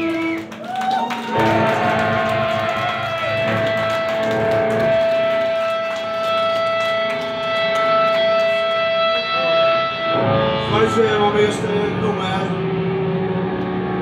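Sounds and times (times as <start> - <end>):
electric guitar long held note: 0.0 - 14.0
metal band playing: 1.3 - 14.0.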